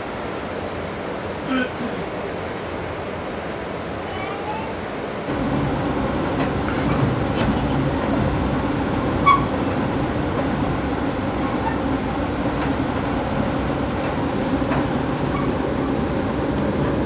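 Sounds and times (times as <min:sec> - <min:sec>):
train car rumble: 0:00.0 - 0:17.0.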